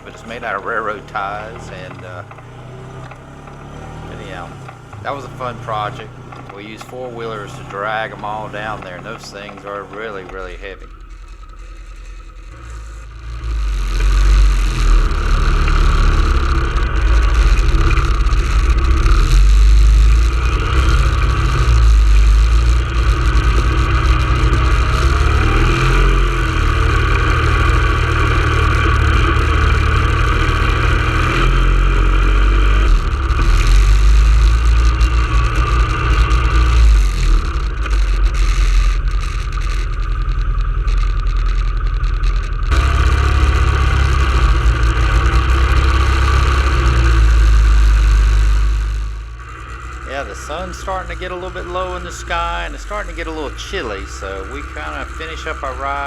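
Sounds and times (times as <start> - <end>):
atv engine rumbling: 0.0 - 56.0.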